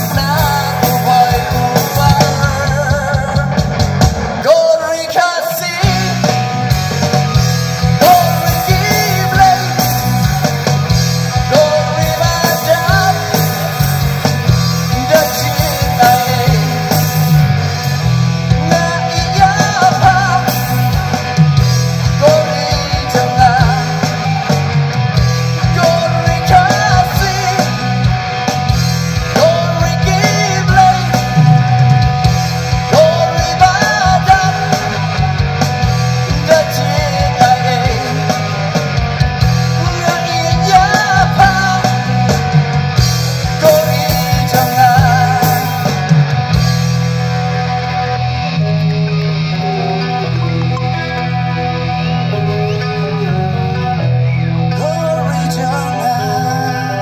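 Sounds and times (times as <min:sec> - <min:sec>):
person singing: 0:00.0 - 0:06.7, 0:07.9 - 0:14.2, 0:14.8 - 0:21.4, 0:22.0 - 0:24.7, 0:25.4 - 0:28.3, 0:29.1 - 0:38.9, 0:39.5 - 0:42.6, 0:43.4 - 0:46.2, 0:49.6 - 0:57.0
rock band playing: 0:00.0 - 0:57.0.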